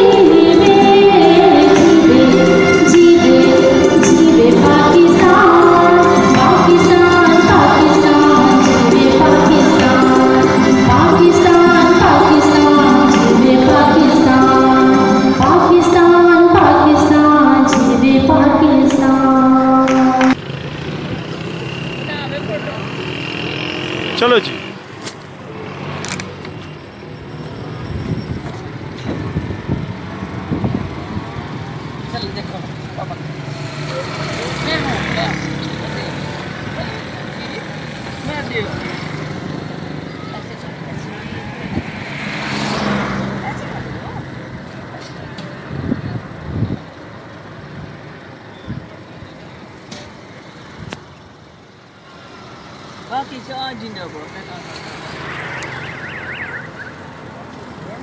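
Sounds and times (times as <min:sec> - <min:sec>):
road traffic noise: 0:00.0 - 0:58.0
vehicle engine rumbling: 0:00.0 - 0:58.0.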